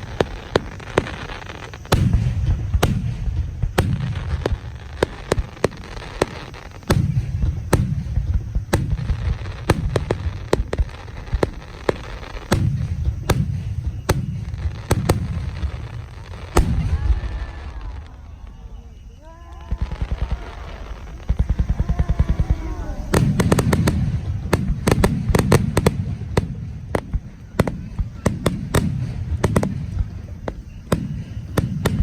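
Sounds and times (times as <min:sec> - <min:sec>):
fireworks booming: 0:00.0 - 0:32.0
fireworks cracks and pops: 0:00.0 - 0:32.0.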